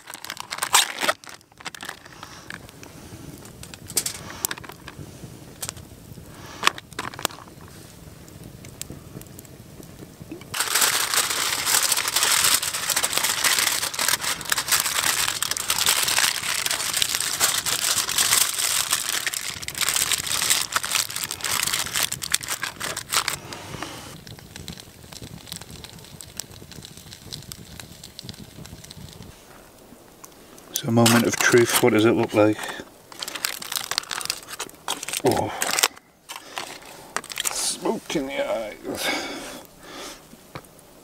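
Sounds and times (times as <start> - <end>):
aluminium foil crinkling: 0.0 - 5.0, 5.6 - 7.8, 10.5 - 39.7
campfire crackling: 0.0 - 41.0.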